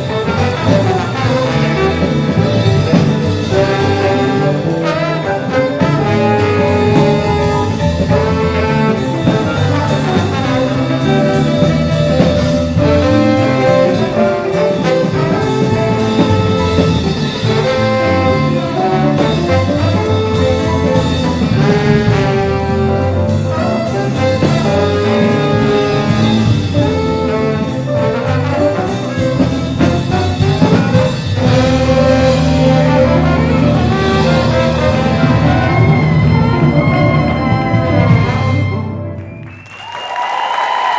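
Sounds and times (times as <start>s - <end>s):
jazz ensemble playing: 0.0s - 39.9s.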